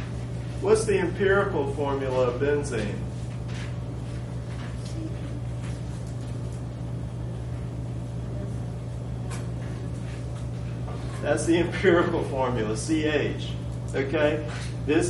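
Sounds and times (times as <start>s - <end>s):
low hum of room equipment: 0.0s - 15.0s.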